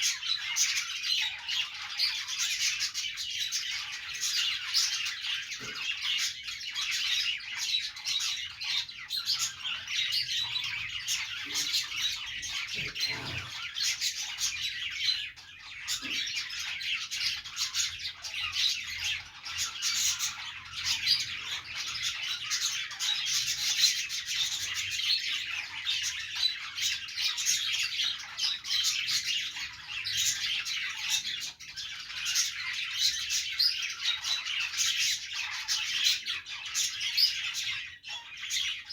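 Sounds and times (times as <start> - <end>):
budgies chattering and chirping: 0.0 - 38.9.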